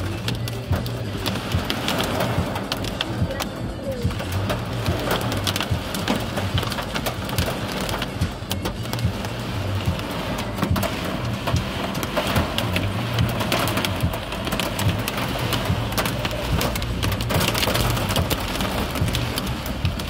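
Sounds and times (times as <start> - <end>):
heavy rain on car roof: 0.0 - 20.0.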